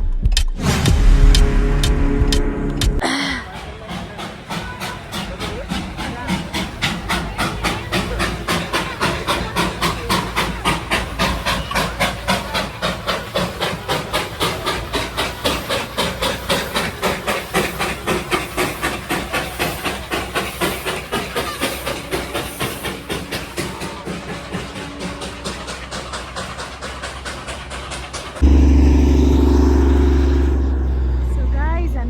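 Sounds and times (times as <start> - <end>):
steam locomotive chuffing: 0.6 - 32.0.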